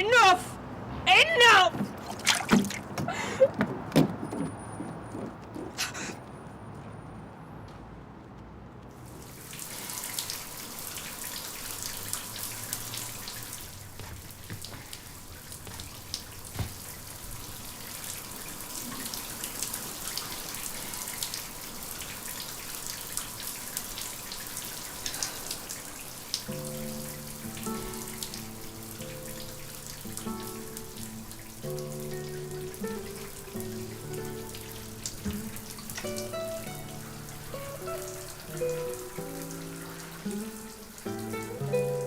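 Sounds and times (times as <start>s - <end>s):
water splashing and dripping: 0.7s - 6.3s, 8.8s - 42.0s.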